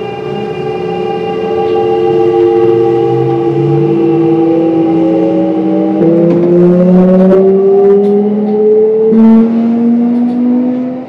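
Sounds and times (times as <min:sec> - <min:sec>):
electric train motors whining: 0:00.0 - 0:11.0.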